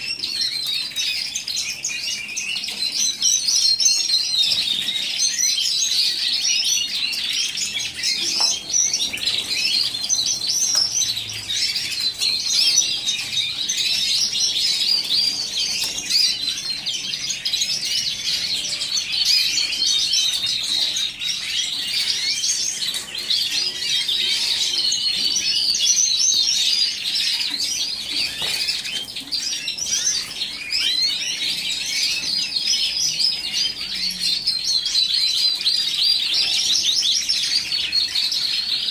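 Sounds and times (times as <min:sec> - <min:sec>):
canaries singing and chirping: 0:00.0 - 0:38.9.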